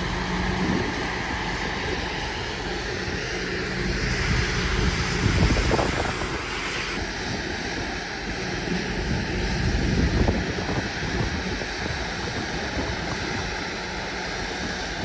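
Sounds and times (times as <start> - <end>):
rumbling road noise: 0.0 - 15.0
truck engine running: 0.0 - 15.0.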